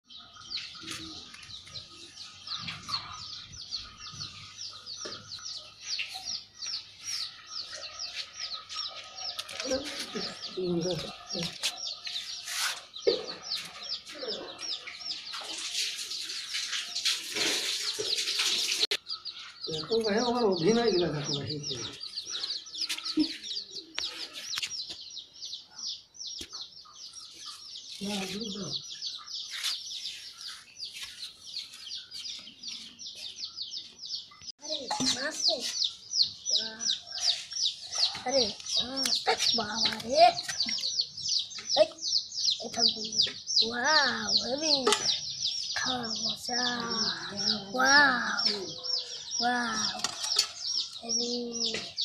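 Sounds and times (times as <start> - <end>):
bird chirping high calls: 0.1 - 52.0.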